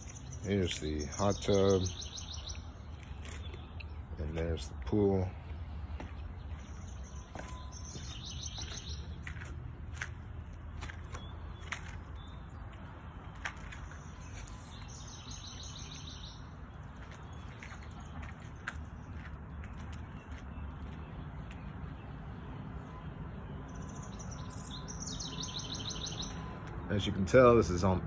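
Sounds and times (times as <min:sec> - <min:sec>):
songbird trilling: 0:00.0 - 0:04.9, 0:06.4 - 0:10.1, 0:10.8 - 0:22.1, 0:23.7 - 0:27.0.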